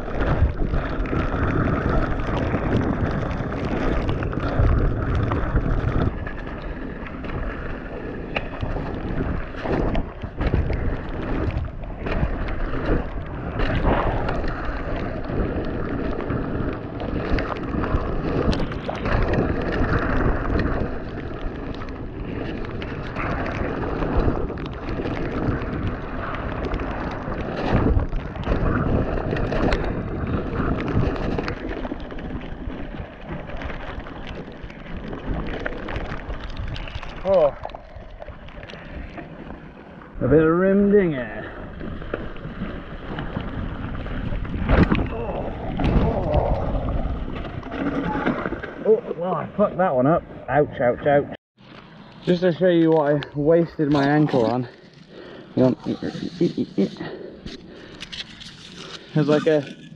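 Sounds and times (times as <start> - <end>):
wind buffeting microphone: 0.0 - 51.4
tyres rumbling on mud and rock: 0.0 - 59.9.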